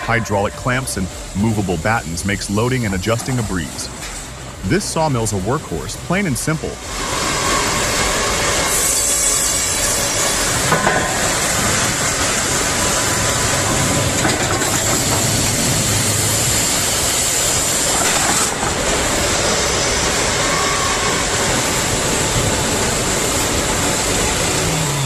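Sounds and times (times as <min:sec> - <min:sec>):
sawmill machinery with hiss: 0:00.0 - 0:25.0.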